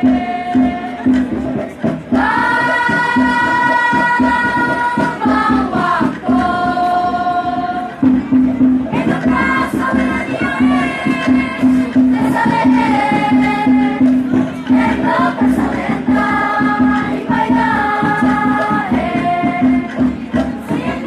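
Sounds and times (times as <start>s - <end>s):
group singing: 0.0s - 21.0s
steady low beat: 0.0s - 21.0s.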